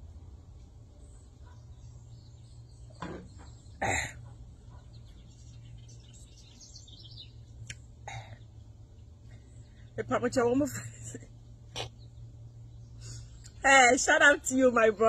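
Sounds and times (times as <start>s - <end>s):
steady low hum: 0.0s - 15.0s
small birds chirping: 0.5s - 15.0s.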